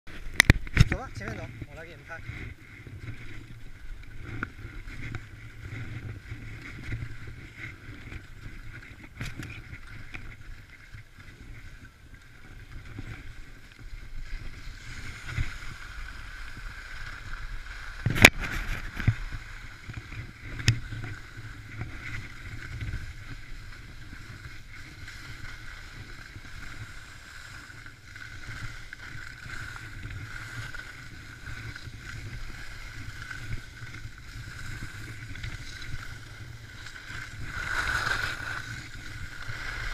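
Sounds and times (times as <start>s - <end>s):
skis sliding over packed snow: 0.1s - 39.9s.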